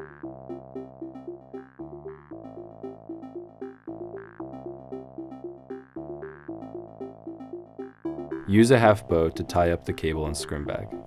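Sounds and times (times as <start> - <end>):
synthesizer music: 0.0 - 11.0.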